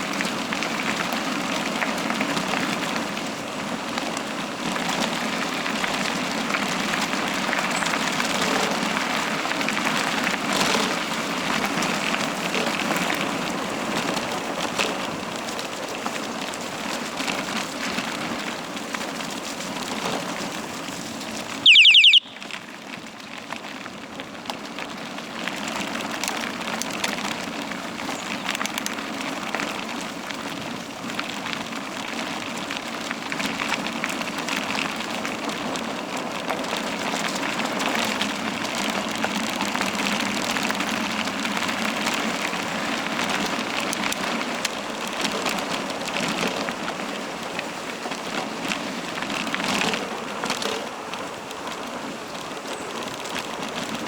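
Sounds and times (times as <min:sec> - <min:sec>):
tyres rolling on dirt track: 0:00.0 - 0:21.5, 0:23.3 - 0:54.0.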